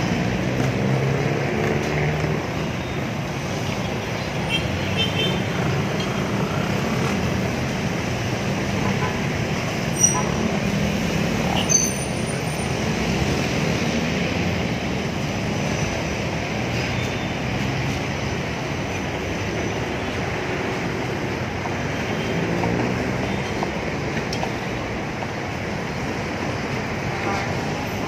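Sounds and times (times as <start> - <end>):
dense city traffic: 0.0 - 28.0.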